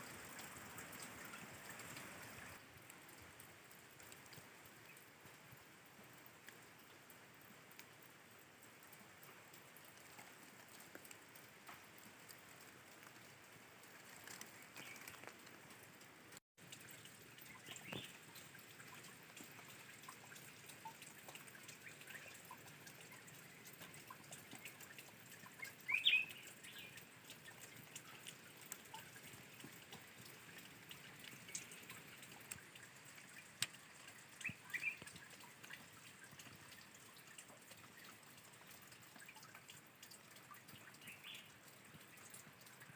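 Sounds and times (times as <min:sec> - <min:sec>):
water trickling and dripping: 0:00.0 - 0:42.9.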